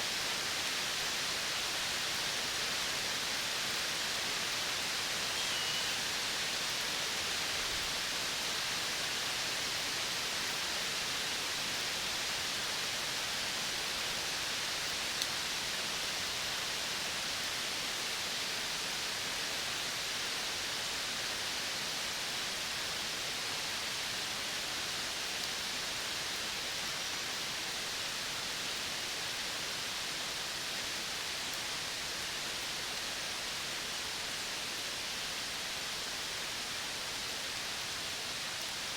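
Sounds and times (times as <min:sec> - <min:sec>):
steady outdoor hiss: 0:00.0 - 0:38.9.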